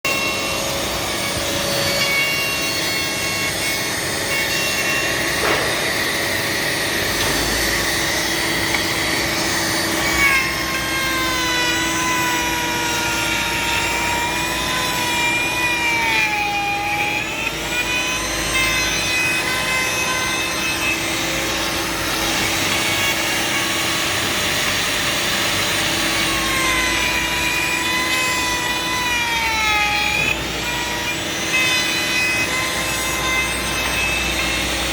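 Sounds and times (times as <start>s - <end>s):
power tool motor whining: 0.1s - 34.9s.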